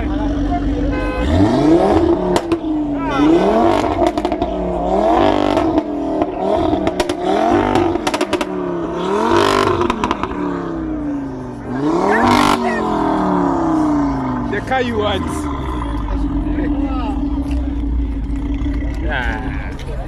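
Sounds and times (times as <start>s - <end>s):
car engine revving: 0.0s - 20.0s
exhaust cracks: 0.0s - 20.0s.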